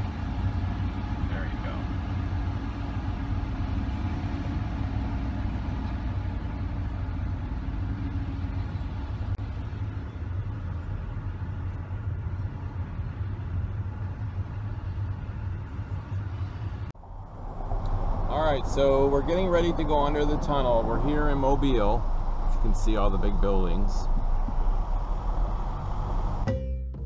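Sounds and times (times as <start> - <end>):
car engine and tyre rumble: 0.0 - 26.5.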